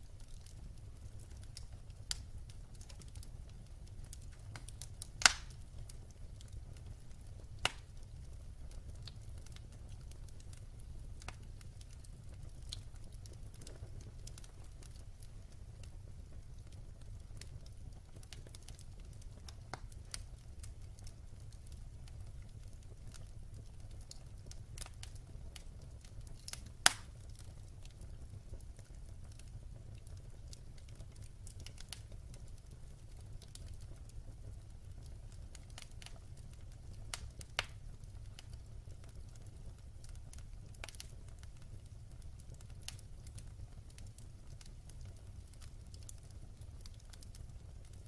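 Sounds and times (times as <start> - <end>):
wood fire burning: 0.0 - 48.0.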